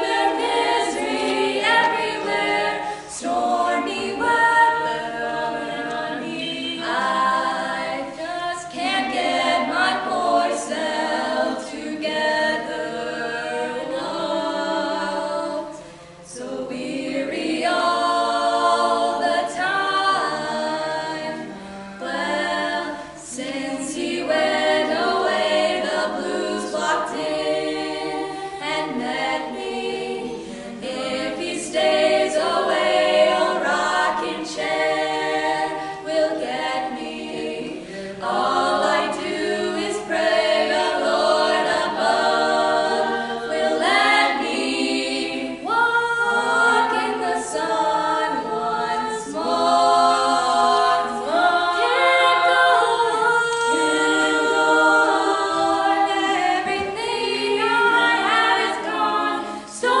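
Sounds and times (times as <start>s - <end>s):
choir singing a cappella: 0.0s - 60.0s.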